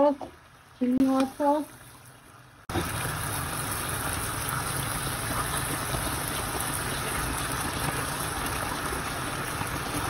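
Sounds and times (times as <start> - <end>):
chicken sizzling in a frying pan: 0.0 - 10.0.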